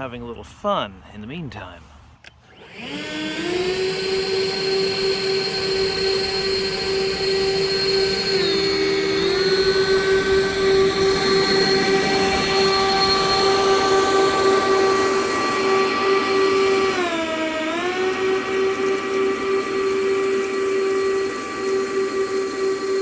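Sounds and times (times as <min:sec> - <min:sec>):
leaf blowers whining: 0:01.9 - 0:23.0.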